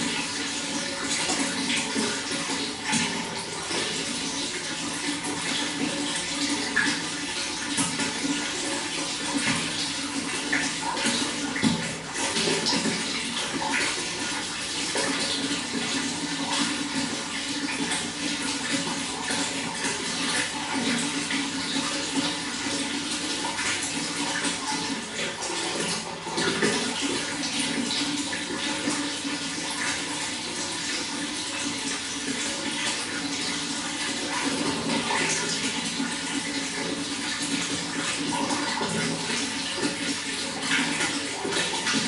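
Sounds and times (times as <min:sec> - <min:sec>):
running water splashing: 0:00.0 - 0:42.0.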